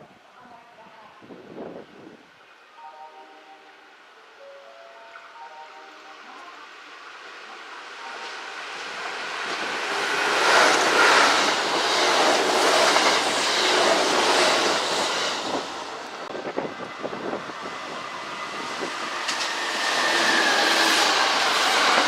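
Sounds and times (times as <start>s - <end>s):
electric train passing: 1.4s - 22.0s.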